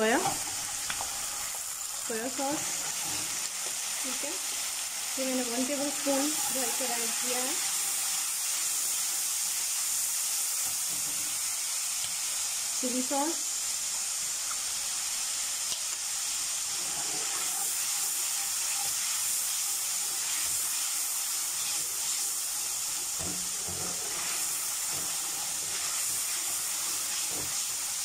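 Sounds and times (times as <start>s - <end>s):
sauce sizzling in hot oil: 0.0s - 28.0s.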